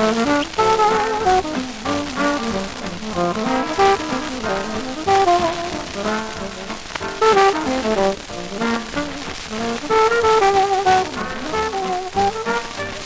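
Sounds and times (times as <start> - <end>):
big band dance music: 0.0 - 13.0
trombones playing: 0.0 - 13.0.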